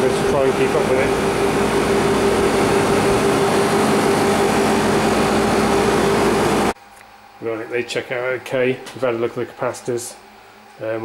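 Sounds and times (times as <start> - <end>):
fan rushing air: 0.0 - 11.0
motor and compressor hum: 0.0 - 11.0.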